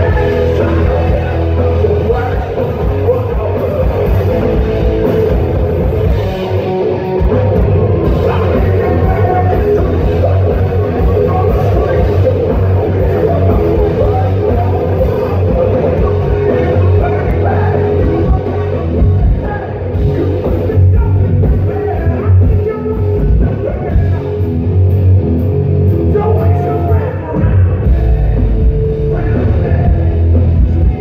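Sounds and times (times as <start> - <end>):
person singing: 0.0 - 5.3, 7.2 - 24.4, 26.0 - 31.0
bass guitar: 0.0 - 31.0
distorted electric guitars: 0.0 - 31.0
drums: 0.0 - 31.0.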